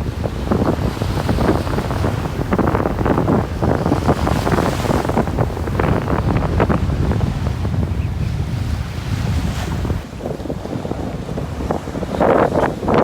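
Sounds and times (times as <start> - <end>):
storm wind buffeting microphone: 0.0 - 13.0
surf: 0.0 - 13.0.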